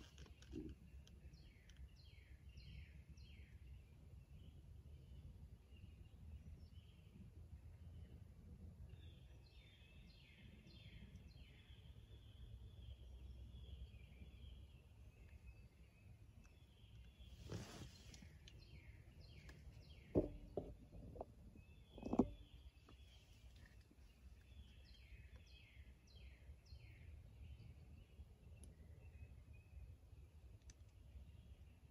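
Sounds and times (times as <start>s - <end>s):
faint woodland ambience: 0.0s - 31.9s.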